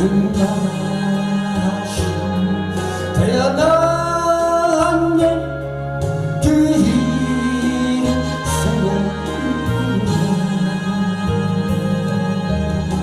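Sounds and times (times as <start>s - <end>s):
instrumental backing: 0.0s - 13.0s
man singing: 0.0s - 13.0s.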